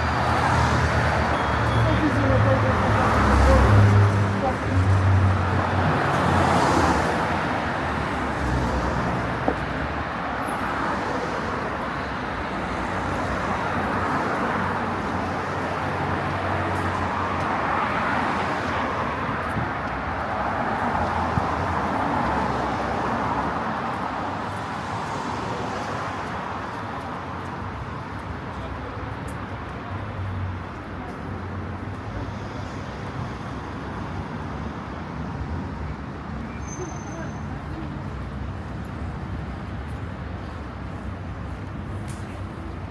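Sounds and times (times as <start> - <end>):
passing cars: 0.0 - 42.9.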